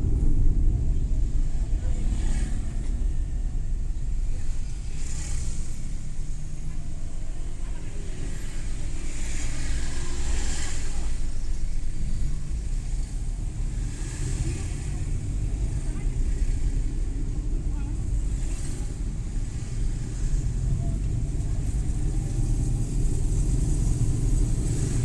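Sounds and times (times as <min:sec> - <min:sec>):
van engine and road rumble: 0:00.0 - 0:25.0.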